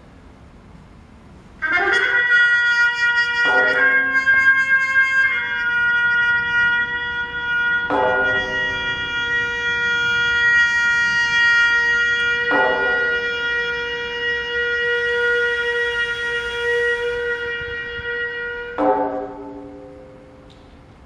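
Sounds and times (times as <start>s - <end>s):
bowed musical saw: 1.6s - 20.7s
trumpet holding long tones: 1.6s - 20.9s.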